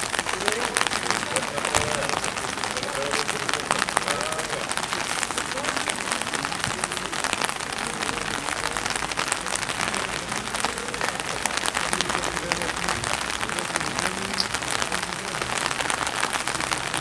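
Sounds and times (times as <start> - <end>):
steady rain on paving: 0.0 - 17.0.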